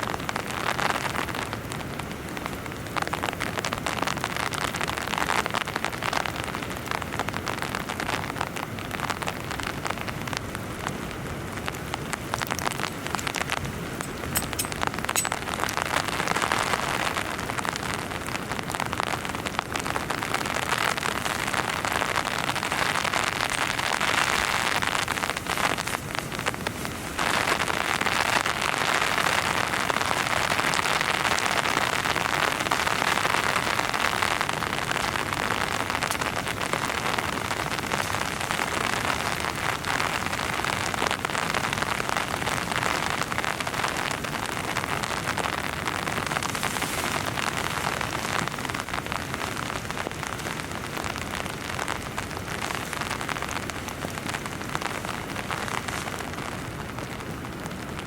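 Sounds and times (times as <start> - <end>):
heavy rain on a tent: 0.0 - 58.0.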